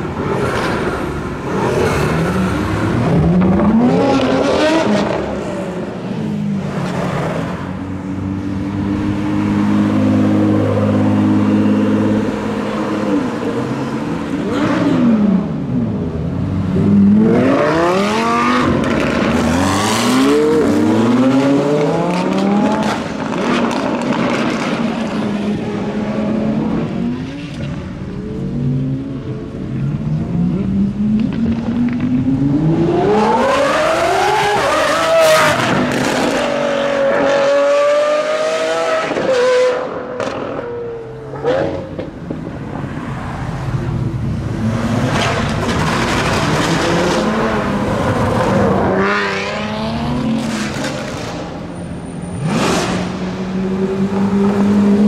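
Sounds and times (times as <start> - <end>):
car engines accelerating: 0.0 - 55.0.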